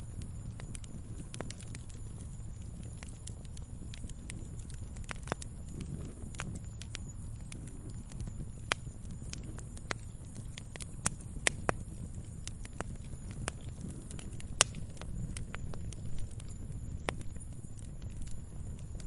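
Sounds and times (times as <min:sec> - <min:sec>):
log fire crackling: 0:00.0 - 0:19.0.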